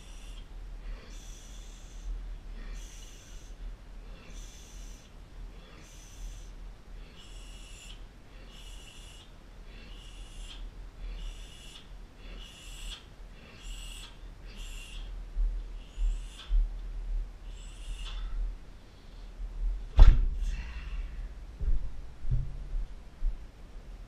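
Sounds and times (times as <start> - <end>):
man breathing heavily: 0.0 - 19.6, 20.3 - 21.8
low steady hum: 0.0 - 24.0.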